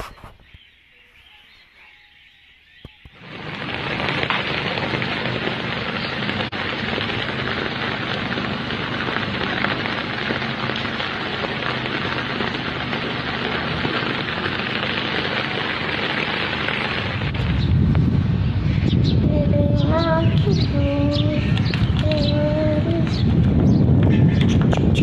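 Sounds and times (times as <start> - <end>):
heavy rain falling: 3.2 - 25.0.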